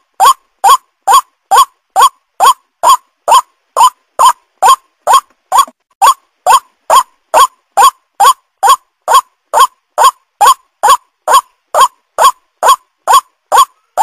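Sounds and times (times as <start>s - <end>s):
waterhen calling: 0.2s - 14.0s.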